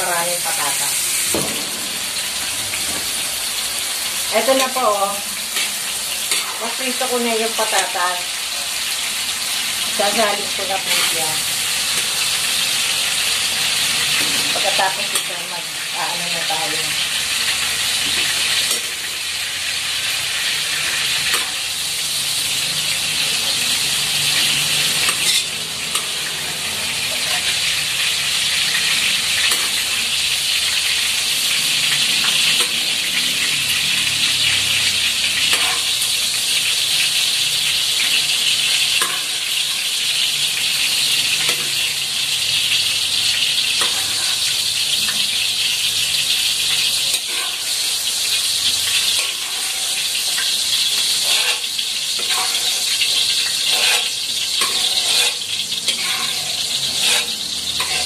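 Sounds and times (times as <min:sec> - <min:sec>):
potatoes sizzling in hot oil: 0:00.0 - 0:58.0.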